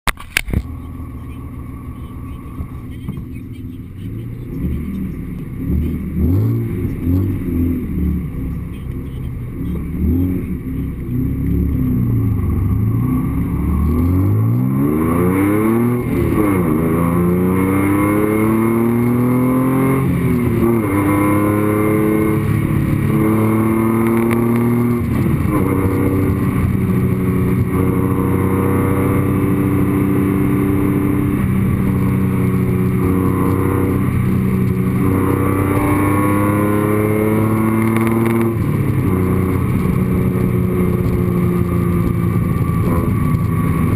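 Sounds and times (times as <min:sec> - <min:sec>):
car engine revving through gears: 0:00.4 - 0:43.9.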